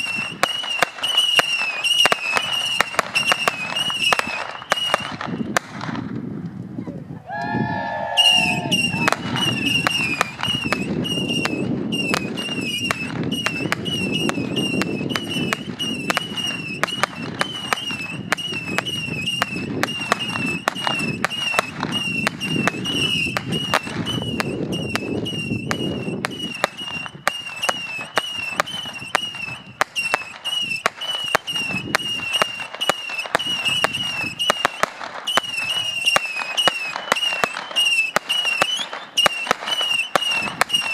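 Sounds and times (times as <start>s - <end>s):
fireworks popping with whistles: 0.0s - 6.3s, 8.2s - 40.9s.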